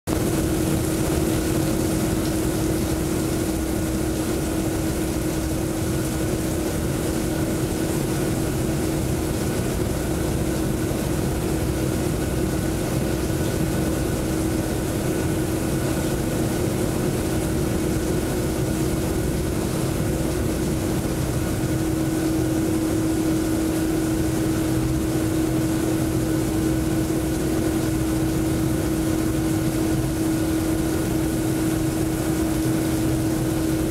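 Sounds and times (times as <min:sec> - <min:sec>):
rushing falling water: 0:00.1 - 0:33.9
steady mechanical hum: 0:00.1 - 0:33.9.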